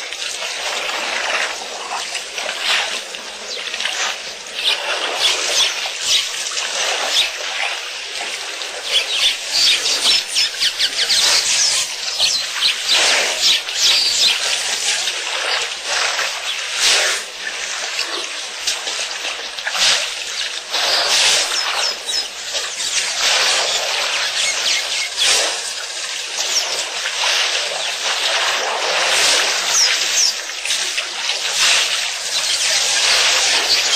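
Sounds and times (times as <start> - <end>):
water splashing from elephant trunks: 0.0 - 33.9.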